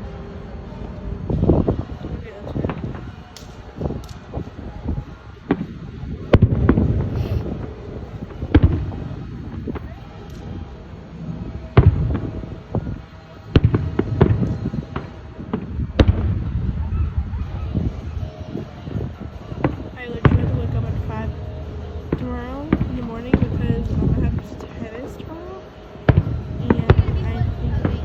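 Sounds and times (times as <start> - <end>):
fireworks booming: 1.1 - 25.2, 25.9 - 28.0.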